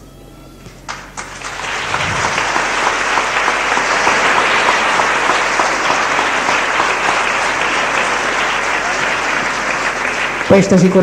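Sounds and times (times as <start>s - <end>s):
congregation applauding: 0.8s - 11.0s.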